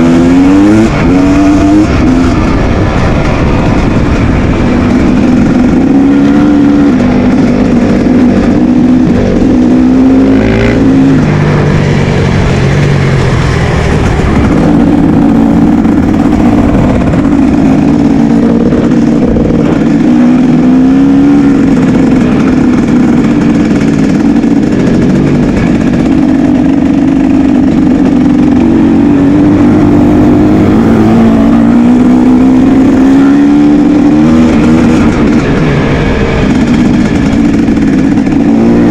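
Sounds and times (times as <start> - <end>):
dirt-bike engines revving: 0.0 - 38.9.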